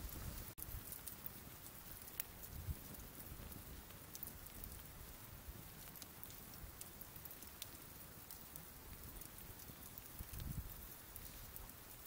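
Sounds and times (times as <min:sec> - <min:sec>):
bonfire crackling: 0:00.0 - 0:12.0
soft hiss: 0:00.0 - 0:12.0.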